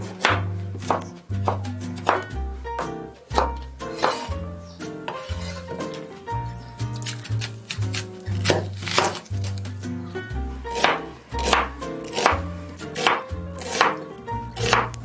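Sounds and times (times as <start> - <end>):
knife slicing onion on cutting board: 0.0 - 6.1, 6.8 - 9.8, 10.7 - 15.0.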